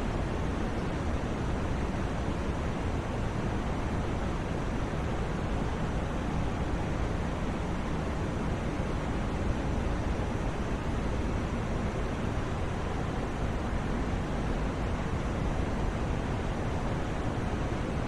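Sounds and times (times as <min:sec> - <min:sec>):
white noise hiss: 0:00.0 - 0:18.0.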